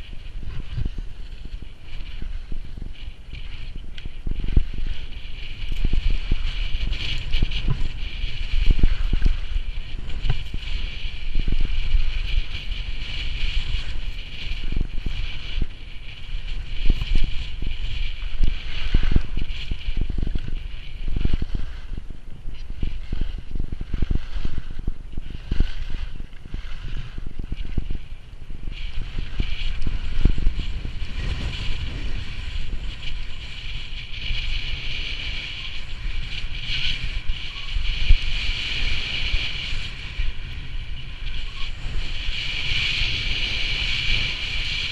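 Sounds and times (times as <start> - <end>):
skis scraping on snow: 0.0 - 44.9
wind buffeting microphone: 0.0 - 44.9.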